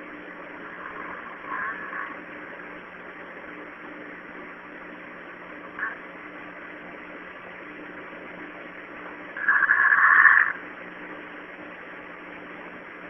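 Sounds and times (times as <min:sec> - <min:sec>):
background hiss and hum: 0:00.0 - 0:13.0.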